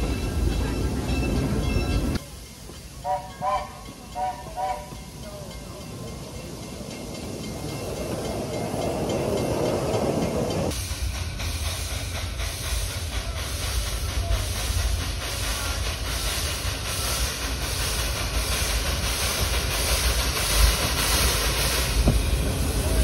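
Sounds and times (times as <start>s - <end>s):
steam hissing: 0.0s - 23.0s
steam locomotive chuffing: 0.0s - 23.0s.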